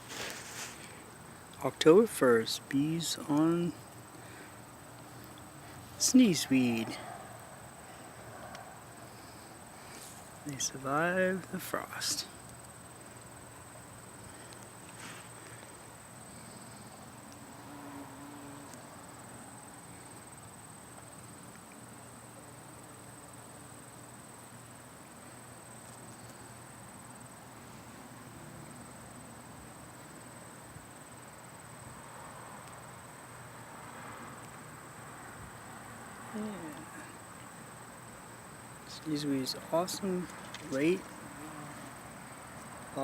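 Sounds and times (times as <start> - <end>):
crickets trilling: 0.0 - 43.0
soft outdoor hiss: 0.0 - 43.0.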